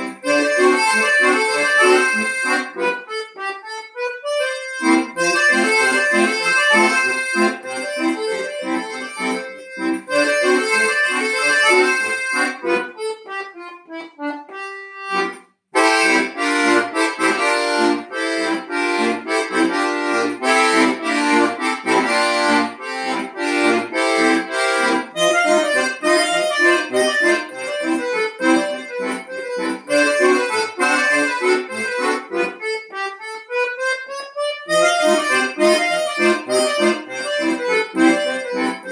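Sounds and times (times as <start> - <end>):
accordion solo: 0.0 - 38.9.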